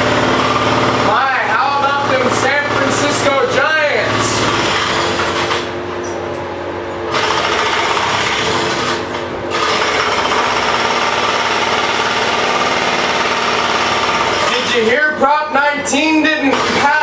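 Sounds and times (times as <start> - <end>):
jackhammer hammering: 0.0 - 5.8, 7.1 - 15.1, 16.2 - 17.0.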